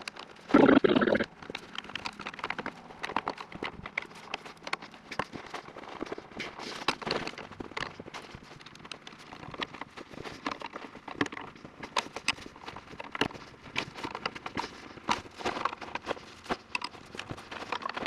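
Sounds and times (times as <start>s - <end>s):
rustling of materials: 0.0s - 18.0s.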